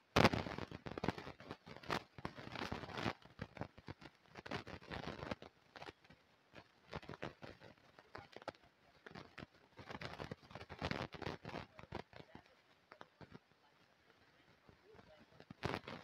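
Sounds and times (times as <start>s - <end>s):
crackling and rustling: 0.0s - 16.0s.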